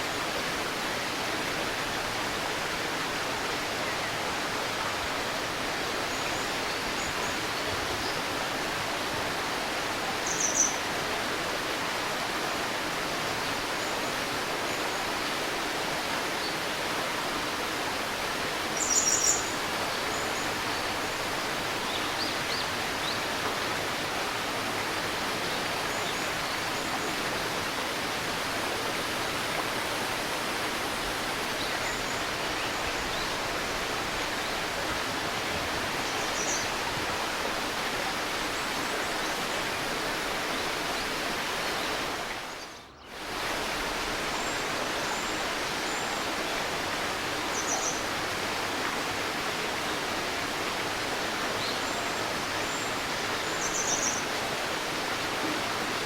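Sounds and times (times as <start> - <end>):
river babbling: 0.0 - 56.0.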